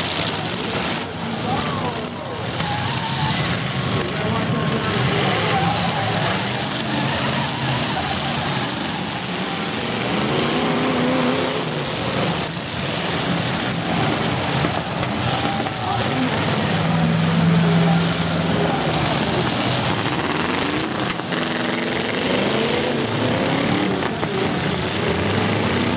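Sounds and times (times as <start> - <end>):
car engines revving: 0.0 - 25.9.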